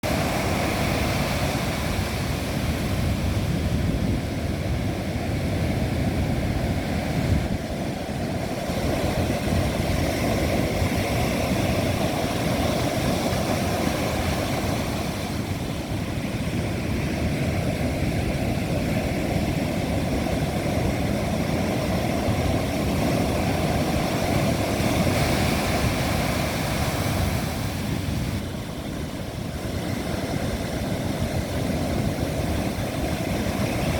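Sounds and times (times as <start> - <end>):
heavy surf waves breaking: 0.0 - 33.9
wind rumbling on microphone: 0.0 - 33.9.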